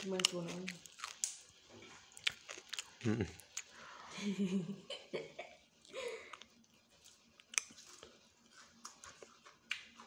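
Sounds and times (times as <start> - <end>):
person chewing food: 0.0 - 4.0, 5.8 - 10.0.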